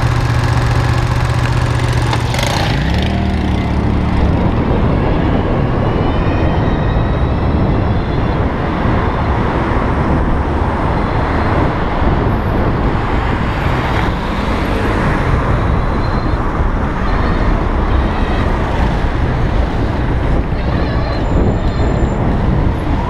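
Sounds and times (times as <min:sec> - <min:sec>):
road traffic noise: 0:00.0 - 0:23.0
wind rushing over microphone: 0:00.0 - 0:23.0.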